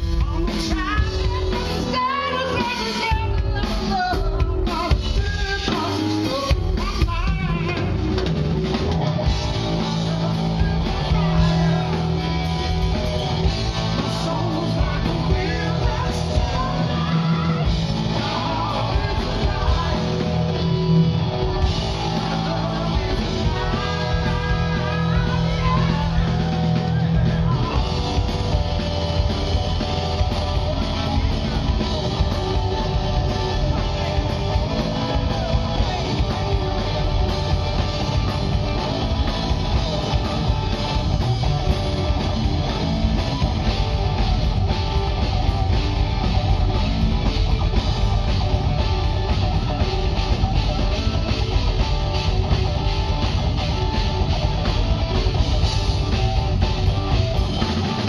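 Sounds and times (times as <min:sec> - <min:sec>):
drum kit: 0:00.0 - 0:58.0
electric bass: 0:00.0 - 0:58.0
electric guitar: 0:00.0 - 0:58.0
lead vocal singing: 0:00.0 - 0:58.0.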